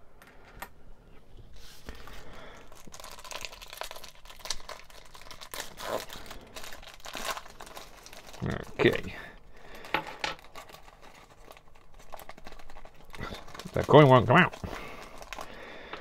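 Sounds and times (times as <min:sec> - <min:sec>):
foil wrapper tearing and crinkling: 0:01.6 - 0:09.2, 0:10.4 - 0:16.0.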